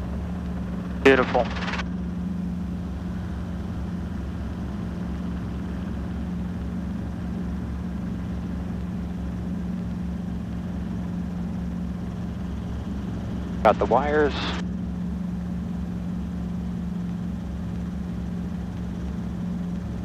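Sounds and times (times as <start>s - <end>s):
helicopter engine and rotors: 0.0s - 20.0s.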